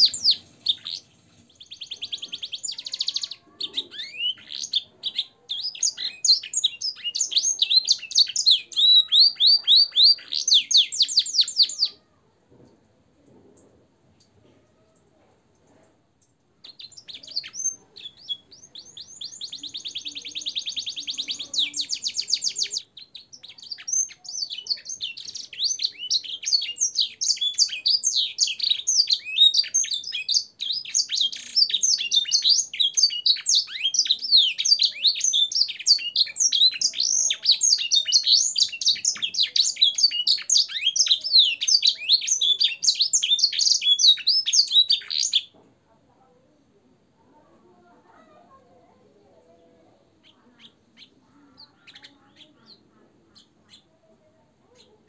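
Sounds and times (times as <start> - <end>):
canary singing: 0.0 - 12.3, 16.5 - 45.6, 49.2 - 55.0.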